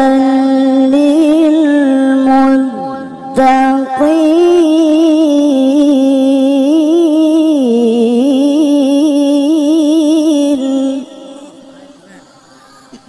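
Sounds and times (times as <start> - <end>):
man reciting melodically: 0.0 - 12.4.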